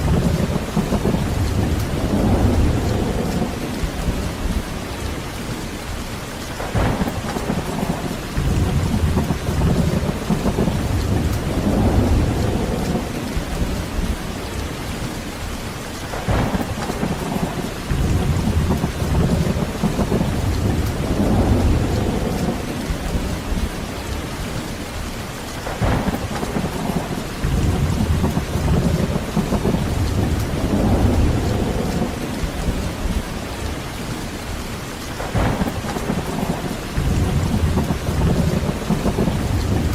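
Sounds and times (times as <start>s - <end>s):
heavy rain: 0.0s - 39.9s
thunder cracks and rumble: 0.0s - 39.9s.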